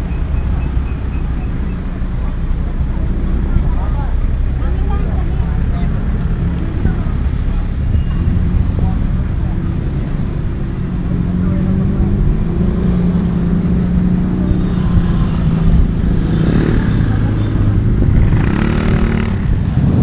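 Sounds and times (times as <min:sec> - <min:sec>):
people's voices: 0:00.0 - 0:20.0
vehicle engines humming: 0:00.0 - 0:20.0.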